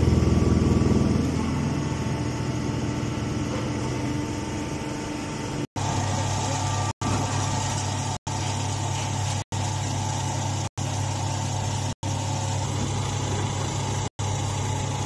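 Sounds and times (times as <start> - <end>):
hydraulic pump motor humming: 0.0 - 15.0.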